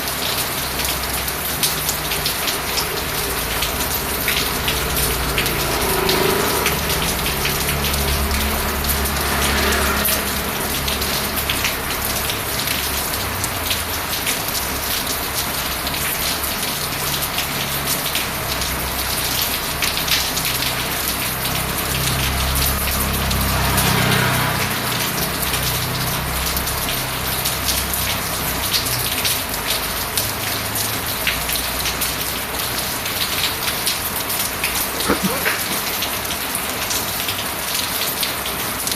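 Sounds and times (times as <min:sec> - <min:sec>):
rain hissing on a surface: 0:00.0 - 0:38.9.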